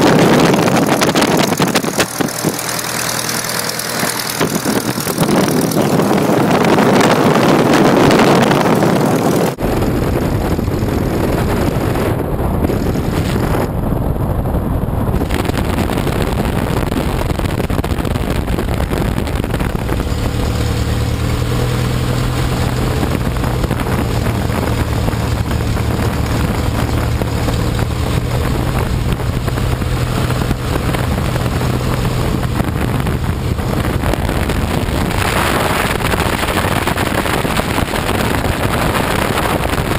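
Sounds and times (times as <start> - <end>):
aircraft engine running: 0.0 - 39.9
wind noise on microphone: 0.0 - 39.9.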